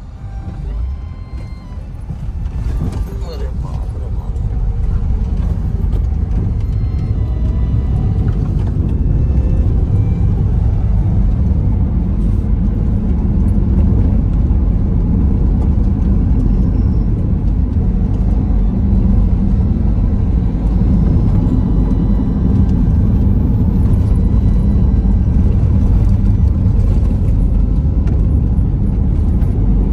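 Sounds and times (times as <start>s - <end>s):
car driving heard from inside: 0.0s - 29.9s.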